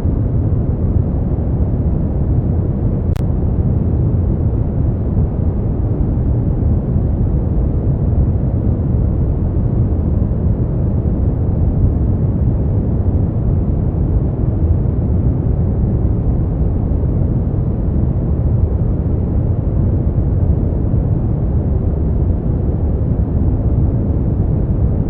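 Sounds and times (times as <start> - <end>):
deep rumbling generated noise: 0.0 - 25.0.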